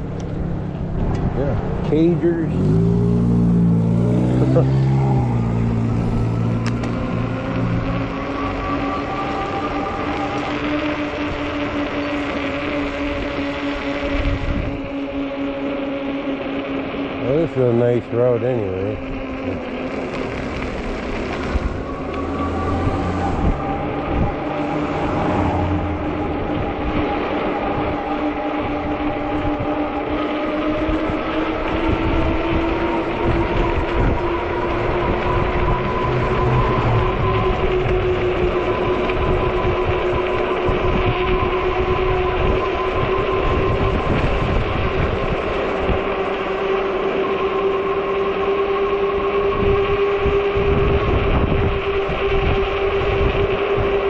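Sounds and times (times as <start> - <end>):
electric hub motor whine: 0.0 - 54.0
tyres humming on pavement: 0.0 - 54.0
wind rumbling on microphone: 0.0 - 54.0.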